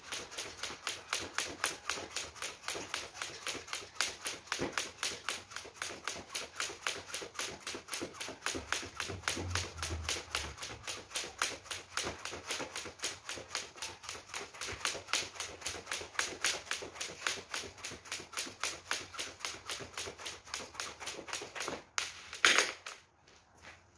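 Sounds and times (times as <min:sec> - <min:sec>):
skipping rope ticking on wooden floor: 0:00.0 - 0:21.9.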